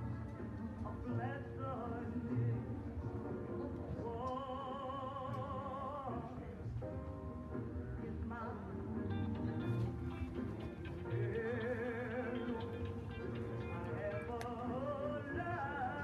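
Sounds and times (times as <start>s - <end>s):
slow song with singing voice: 0.0s - 16.0s.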